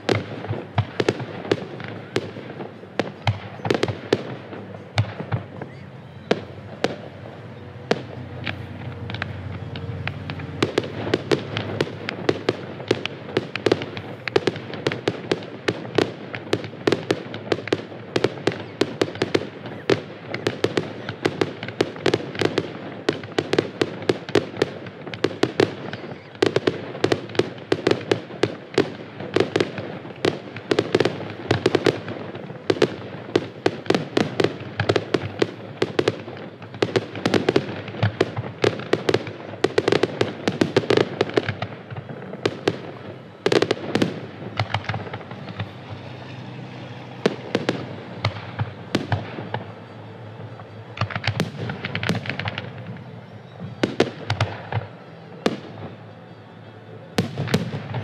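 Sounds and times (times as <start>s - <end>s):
loud firework booms: 0.0s - 50.0s
fireworks banging: 0.0s - 58.0s.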